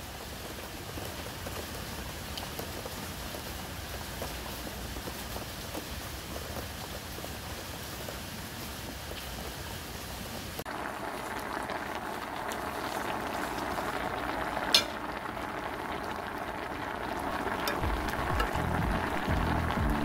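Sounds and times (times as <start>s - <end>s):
stew boiling hard in a pot: 0.0s - 20.0s.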